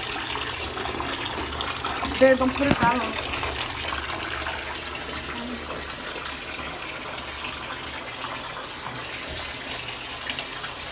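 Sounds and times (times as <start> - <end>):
water running into bathtub: 0.0 - 10.9.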